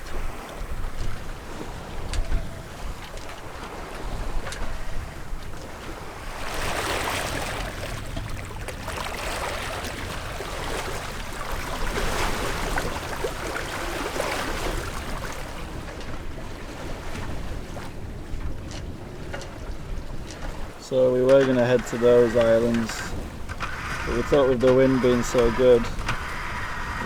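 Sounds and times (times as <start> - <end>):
water rushing along a hull: 0.0 - 27.0
wind rumbling on microphone: 0.0 - 27.0.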